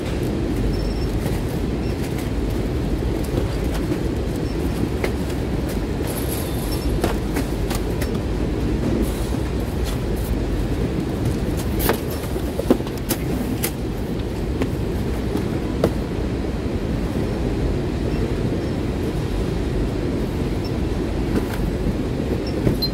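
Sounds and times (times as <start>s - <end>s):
machinery low rumble: 0.0s - 22.9s.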